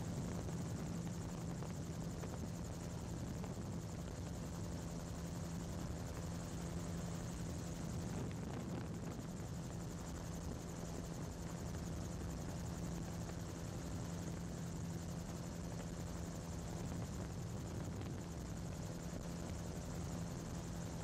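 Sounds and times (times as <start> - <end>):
aircraft engine and propeller drone: 0.0 - 21.0.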